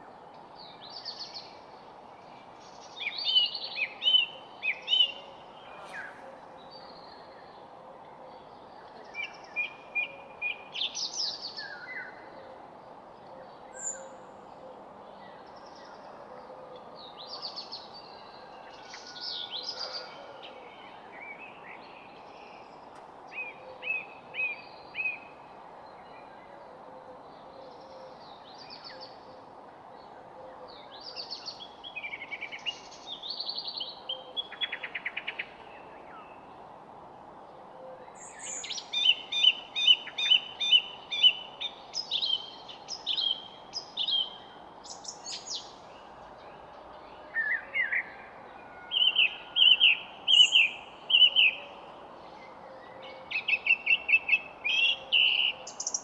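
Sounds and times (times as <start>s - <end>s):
background hiss: 0.0s - 7.8s, 8.6s - 47.3s, 48.1s - 56.0s
songbirds singing and chirping: 0.0s - 56.0s.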